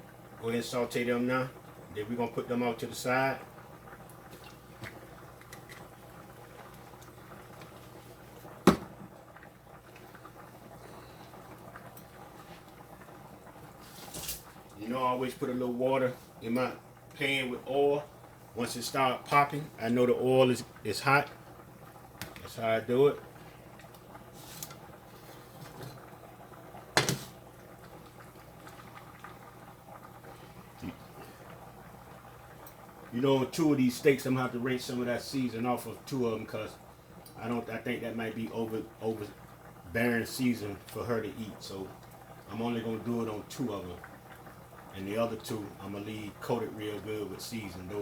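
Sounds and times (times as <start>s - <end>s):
oil sizzling and popping in a pan: 0.0s - 48.0s.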